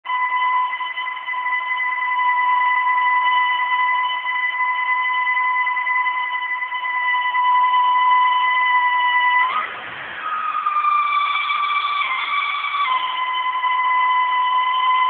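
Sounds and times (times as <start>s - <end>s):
supercharged engine whine: 0.0s - 15.0s.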